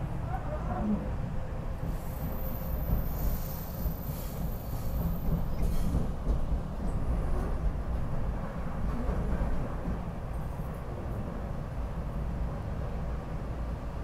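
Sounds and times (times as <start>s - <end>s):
train car rumble and rattle: 0.0s - 14.0s.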